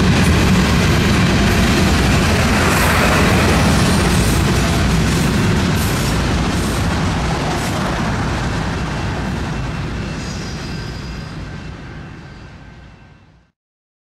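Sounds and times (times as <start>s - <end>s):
freight train rumbling past: 0.0s - 13.5s.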